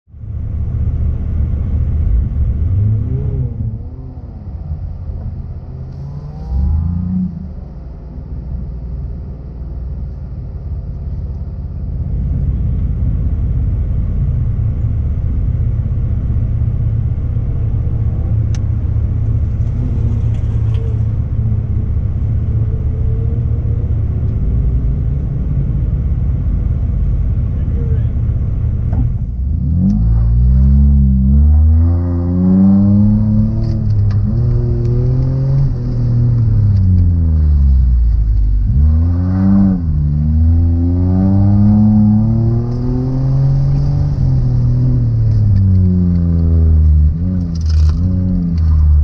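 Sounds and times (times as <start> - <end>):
car engine idling and revving: 0.1 - 49.0.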